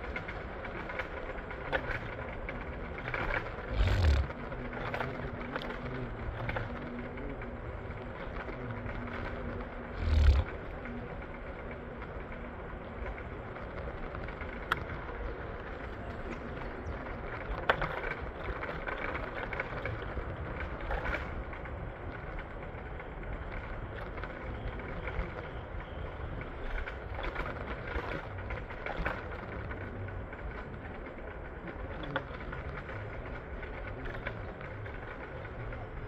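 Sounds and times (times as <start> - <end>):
train car rumbling and rattling: 0.0 - 36.0.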